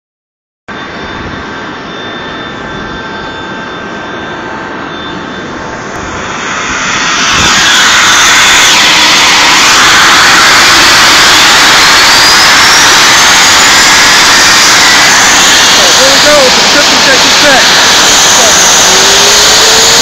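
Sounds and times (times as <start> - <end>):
jet engine roar with whine: 0.7 - 20.0.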